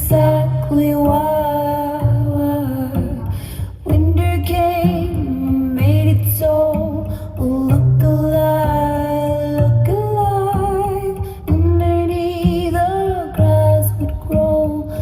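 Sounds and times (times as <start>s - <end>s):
steady bass line: 0.0s - 15.0s
woman singing: 0.0s - 15.0s.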